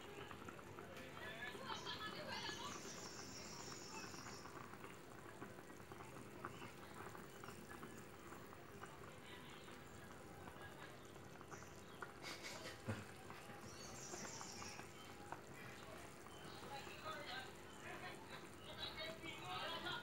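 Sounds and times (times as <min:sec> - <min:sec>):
sauce bubbling and popping: 0:00.0 - 0:01.8, 0:02.5 - 0:18.8.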